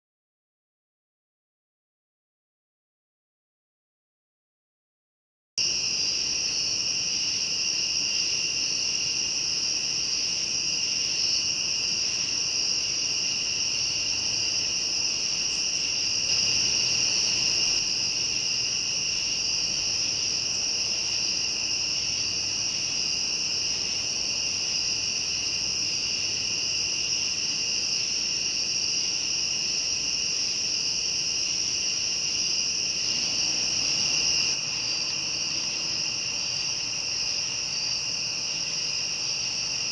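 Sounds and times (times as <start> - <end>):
crickets and insects chirping: 5.6 - 39.9.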